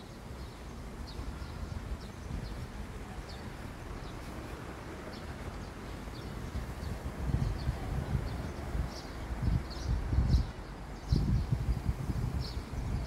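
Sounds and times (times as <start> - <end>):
small birds chirping: 0.0 - 13.0
traffic rumble: 0.0 - 13.0
wind: 0.0 - 13.0.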